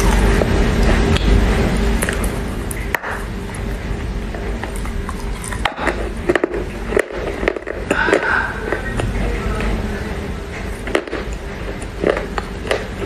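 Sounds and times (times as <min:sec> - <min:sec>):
clay being chewed with crunches: 0:00.0 - 0:09.2, 0:10.6 - 0:13.0
steady low hum: 0:00.0 - 0:13.0.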